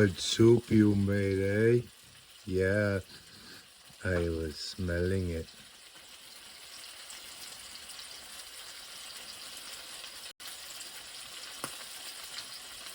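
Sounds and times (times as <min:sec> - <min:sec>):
food sizzling in a frying pan: 0:00.0 - 0:12.9.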